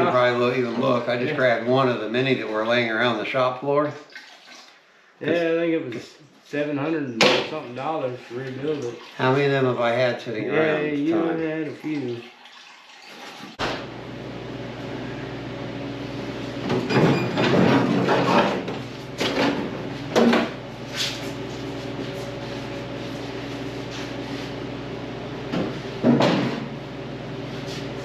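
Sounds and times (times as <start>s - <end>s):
steady mechanical hum: 0.0s - 3.9s, 5.2s - 12.1s, 13.6s - 28.0s.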